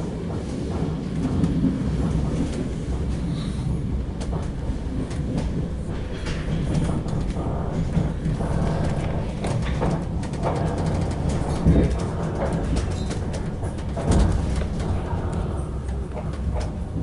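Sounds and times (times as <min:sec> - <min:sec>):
train wheels rumbling: 0:00.0 - 0:17.0
wheels clicking on track: 0:00.1 - 0:17.0.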